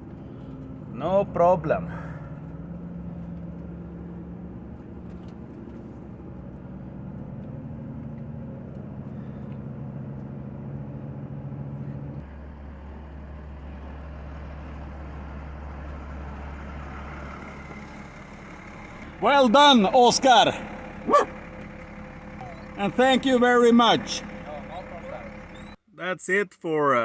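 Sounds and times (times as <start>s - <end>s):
diesel truck engine under load: 0.0s - 25.8s.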